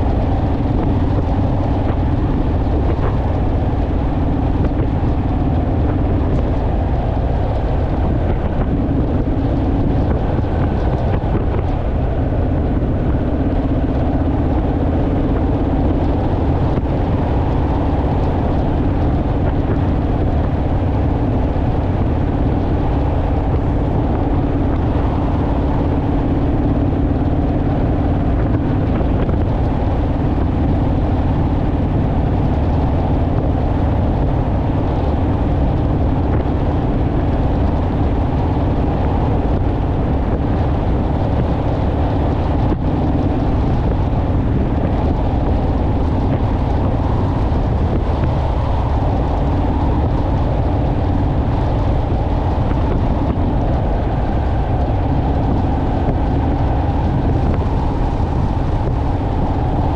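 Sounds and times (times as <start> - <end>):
motorcycle engine rumble: 0.0 - 59.9
wind and road noise: 0.0 - 59.9.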